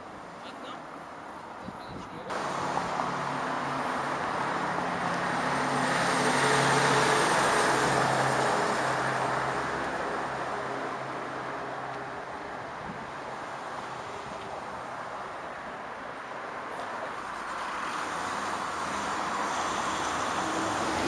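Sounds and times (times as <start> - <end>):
road noise: 0.0 - 21.0
bus driving past: 2.3 - 21.0.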